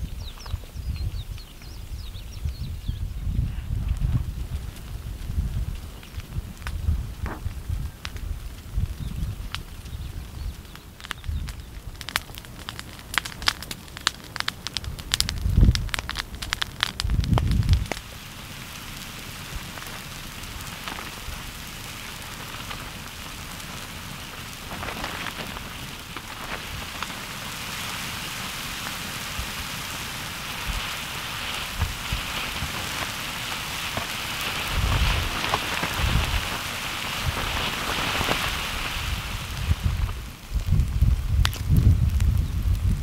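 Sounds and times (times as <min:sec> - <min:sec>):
burning plants hissing and crackling: 0:00.0 - 0:43.0.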